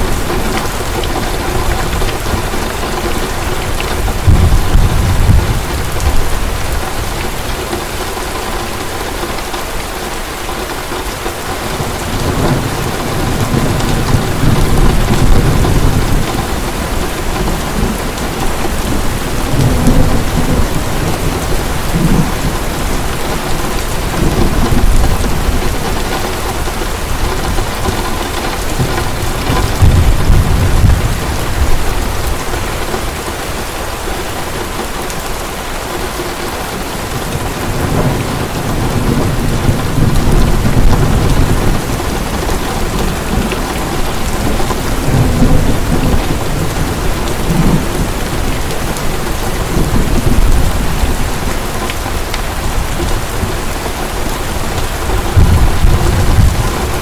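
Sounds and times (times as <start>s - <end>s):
thunder rumbling: 0.0s - 8.0s, 11.3s - 33.6s, 37.0s - 57.0s
heavy rain: 0.0s - 57.0s.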